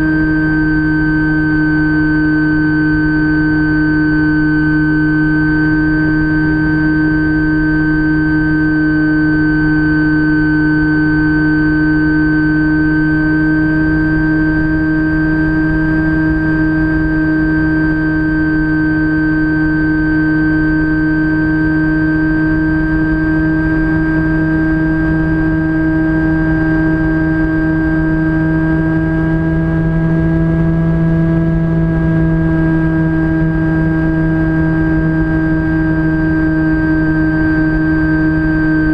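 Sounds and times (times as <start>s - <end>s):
electric motor and propeller whirring: 0.0s - 38.9s.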